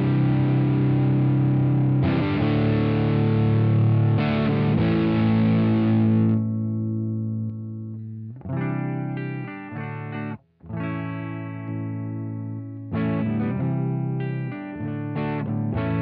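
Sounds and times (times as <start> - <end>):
clean guitar chords ringing: 0.0 - 16.0
distorted electric guitar chords: 0.0 - 16.0.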